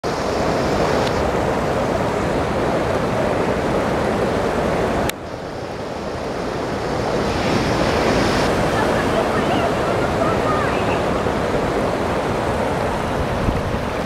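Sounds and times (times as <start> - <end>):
floodwater rushing: 0.1 - 14.0.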